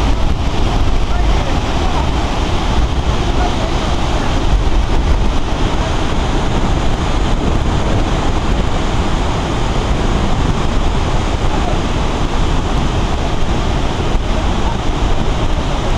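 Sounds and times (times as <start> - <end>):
ocean surf breaking: 0.0 - 15.9
wind rumbling on microphone: 0.0 - 15.9.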